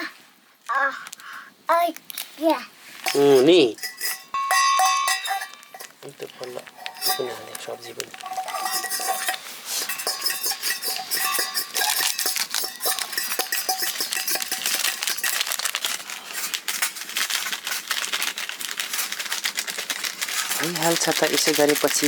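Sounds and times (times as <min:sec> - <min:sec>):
metal utensils clinking on cookware: 0:03.0 - 0:17.9, 0:19.0 - 0:22.0.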